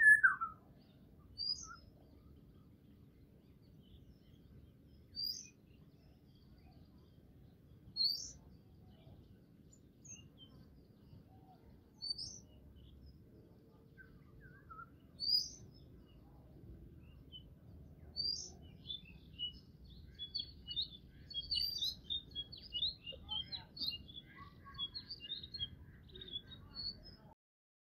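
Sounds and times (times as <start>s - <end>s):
small birds chirping: 0.0s - 27.4s.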